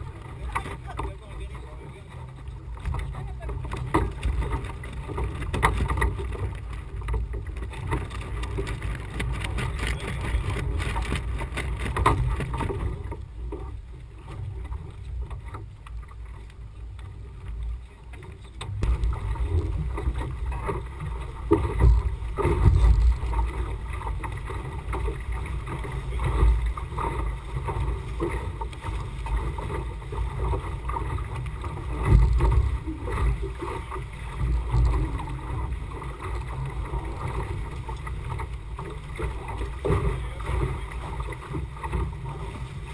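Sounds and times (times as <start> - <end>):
boat knocks and rustling: 0.0 - 42.9.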